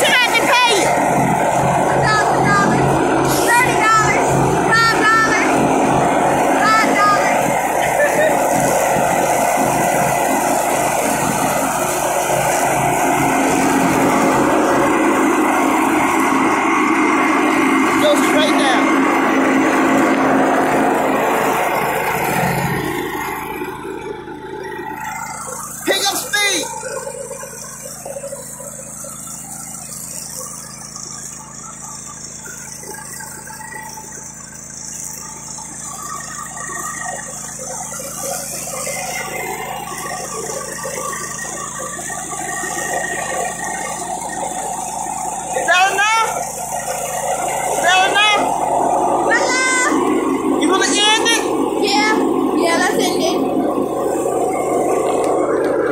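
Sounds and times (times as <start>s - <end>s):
riding lawn mower engine: 0.0s - 55.9s.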